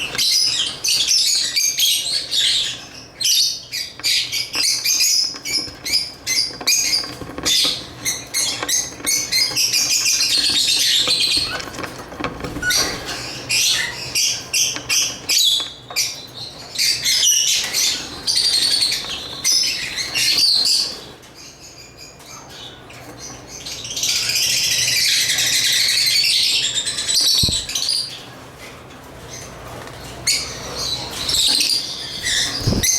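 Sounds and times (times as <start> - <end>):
birds chirping and chattering: 0.0 - 32.9.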